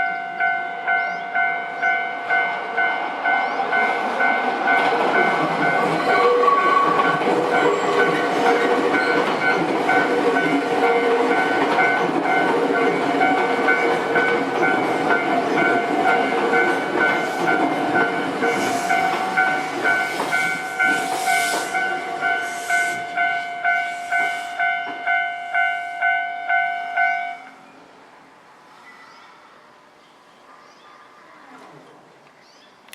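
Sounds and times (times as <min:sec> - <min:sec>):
level-crossing electronic bell: 0:00.0 - 0:27.5
train running over crossing: 0:00.0 - 0:28.0.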